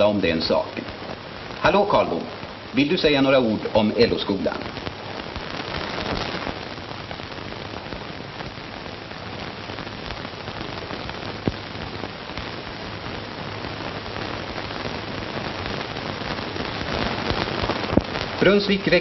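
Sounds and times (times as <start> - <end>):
film soundtrack hiss and crackle: 0.0 - 19.0.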